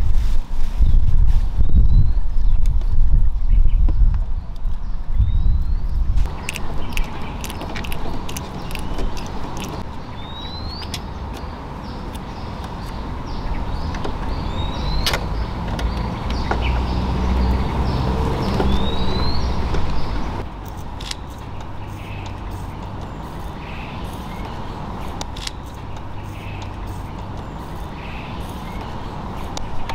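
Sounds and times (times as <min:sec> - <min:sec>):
motor vehicle rumbling: 0:00.0 - 0:29.9.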